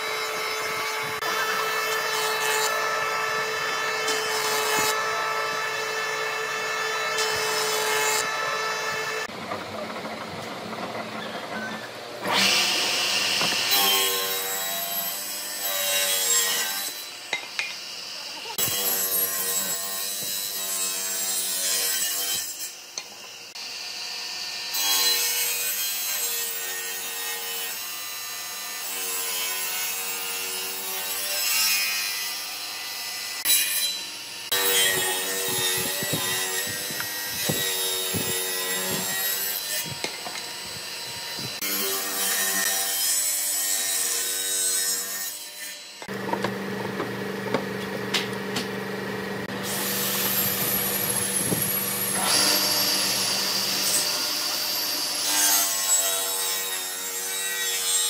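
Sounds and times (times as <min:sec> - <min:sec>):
power tool cutting wood: 0:00.0 - 0:58.0.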